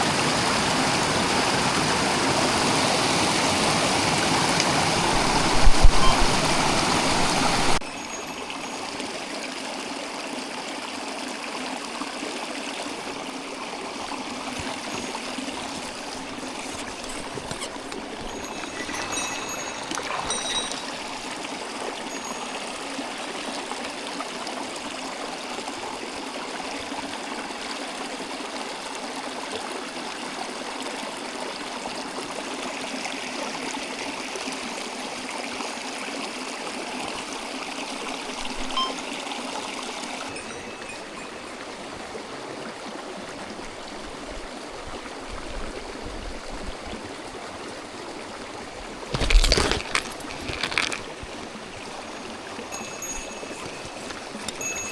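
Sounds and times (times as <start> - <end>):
mountain stream flowing: 0.0 - 54.9.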